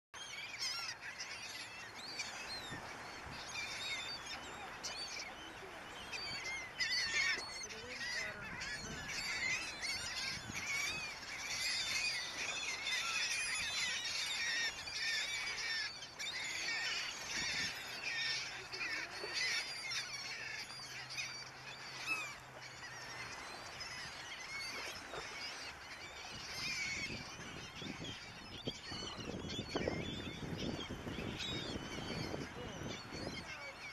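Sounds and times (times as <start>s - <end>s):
gulls calling: 0.2s - 33.9s.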